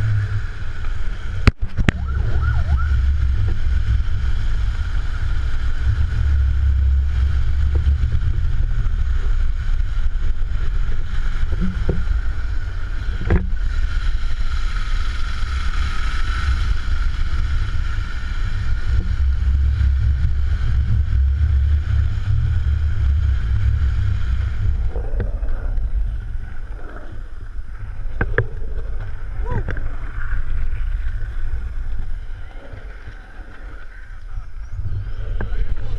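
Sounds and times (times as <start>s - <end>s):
skateboard wheels rolling on asphalt: 0.0s - 35.9s
wind buffeting microphone: 0.0s - 35.9s.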